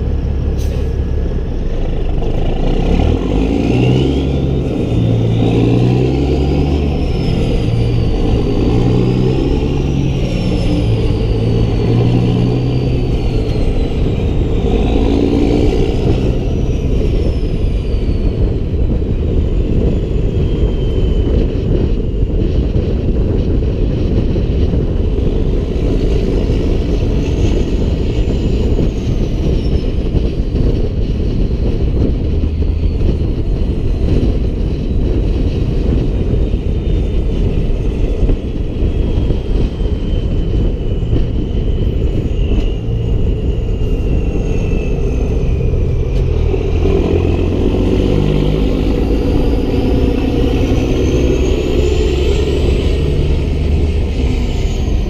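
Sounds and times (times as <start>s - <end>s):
high whine: 0.0s - 55.0s
truck engine rumble: 0.0s - 55.0s.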